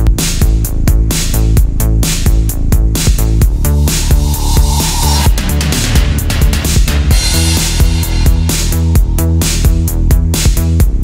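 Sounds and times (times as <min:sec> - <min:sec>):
electronic dance music: 0:00.0 - 0:10.8.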